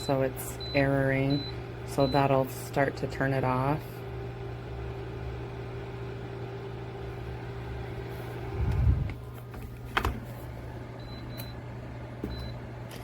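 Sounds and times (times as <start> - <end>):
heater fan humming: 0.0 - 13.0.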